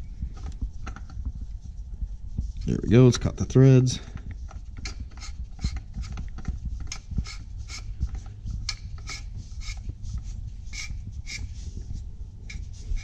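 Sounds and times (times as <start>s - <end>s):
low rumble: 0.0s - 13.0s
oil filter rubbing strokes: 0.0s - 13.0s.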